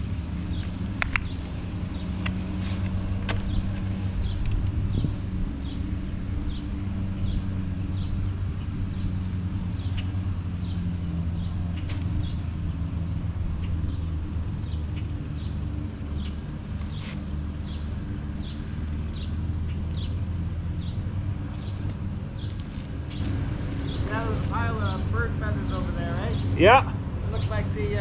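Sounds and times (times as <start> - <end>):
low mechanical drone: 0.0 - 28.0.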